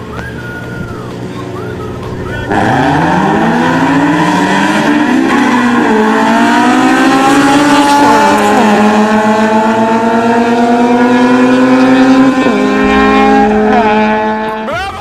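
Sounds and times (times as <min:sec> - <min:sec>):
race car engine accelerating: 0:00.0 - 0:14.8.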